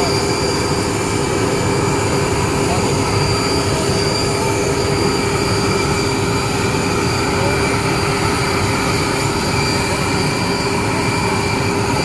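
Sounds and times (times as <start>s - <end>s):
aircraft auxiliary power unit running: 0.0s - 12.0s.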